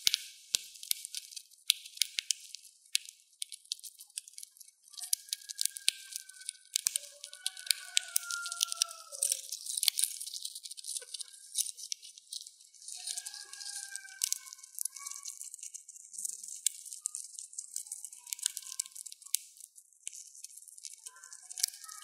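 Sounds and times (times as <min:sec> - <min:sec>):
hamster cracking seeds: 0:00.0 - 0:22.0.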